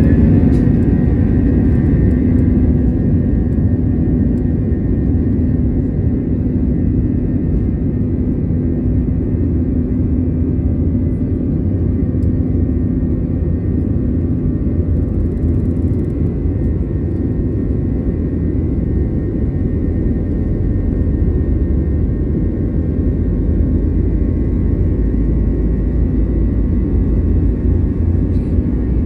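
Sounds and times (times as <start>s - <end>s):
jet engines rumbling in cabin: 0.0s - 29.0s
steady hum: 0.0s - 29.0s.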